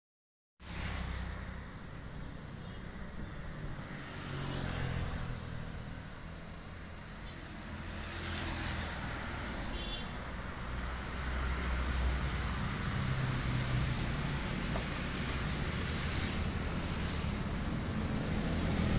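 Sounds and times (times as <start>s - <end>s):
vehicles passing with engine rumble: 0.6s - 18.9s.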